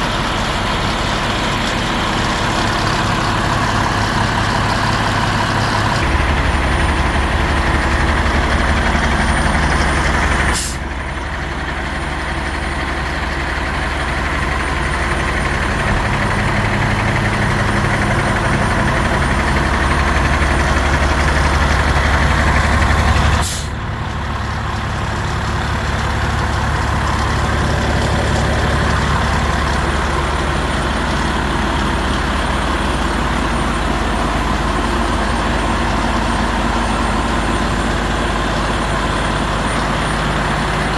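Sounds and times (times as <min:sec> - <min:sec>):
garbage truck diesel engine running: 0:00.0 - 0:40.9.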